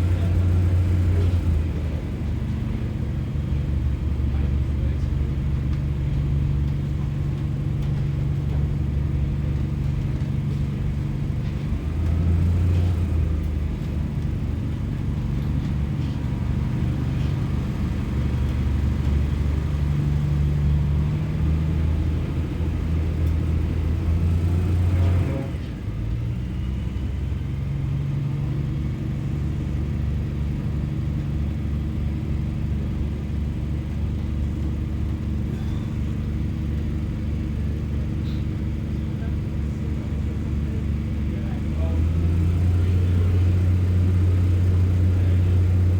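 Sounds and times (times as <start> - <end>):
diesel railbus engine rumble: 0.0 - 45.9.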